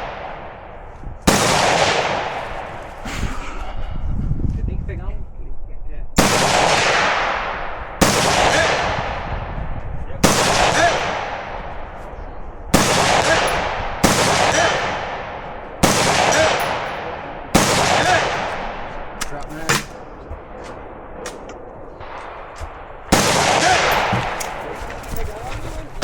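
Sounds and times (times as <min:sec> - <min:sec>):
echoing gunshots: 0:00.0 - 0:03.1, 0:06.2 - 0:25.2.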